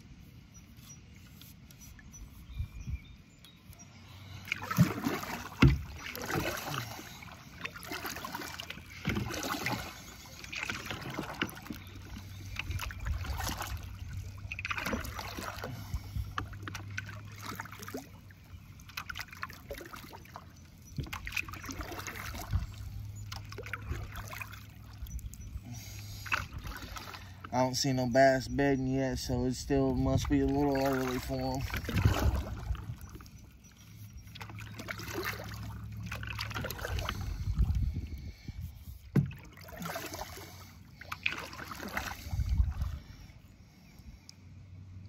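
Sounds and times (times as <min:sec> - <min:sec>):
paddle splashing through water: 0:04.3 - 0:28.2, 0:29.2 - 0:43.3.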